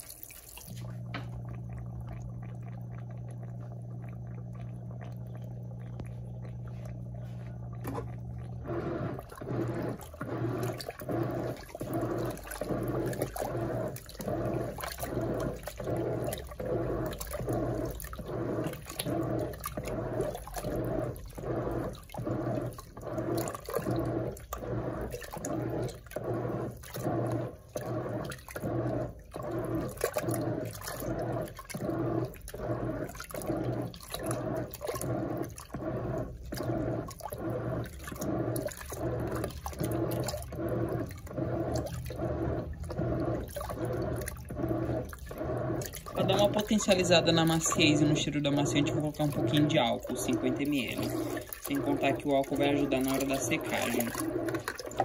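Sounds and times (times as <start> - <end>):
motor hum: 0.0 - 55.0
water sloshing in washing machine: 0.0 - 55.0.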